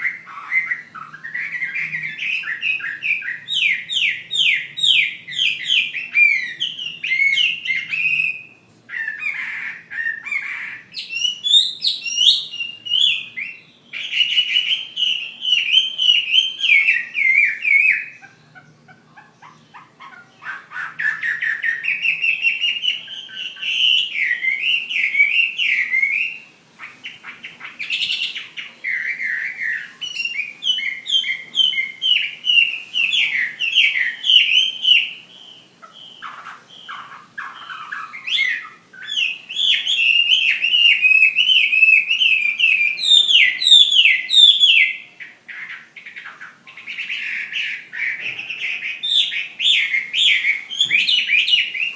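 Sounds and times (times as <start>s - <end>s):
bird singing whistles and trills: 0.0s - 51.9s.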